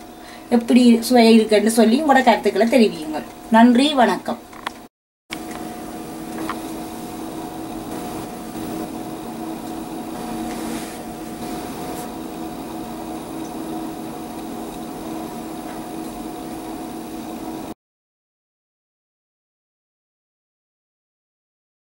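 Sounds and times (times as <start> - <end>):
household appliance humming: 0.0 - 17.8.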